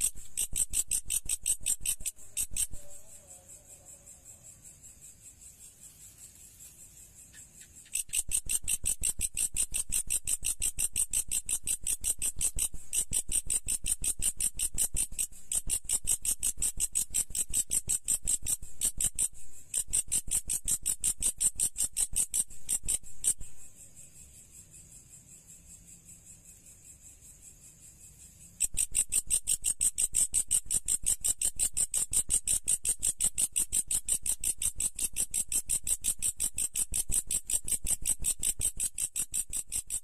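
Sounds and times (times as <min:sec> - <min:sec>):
insect chirping: 0:00.0 - 0:40.0.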